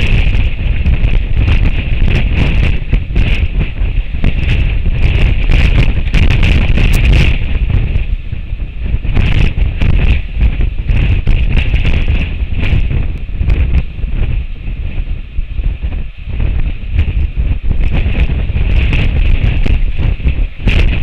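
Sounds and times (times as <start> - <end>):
scattered crackles: 0.0 - 21.0
wind buffeting microphone: 0.0 - 21.0.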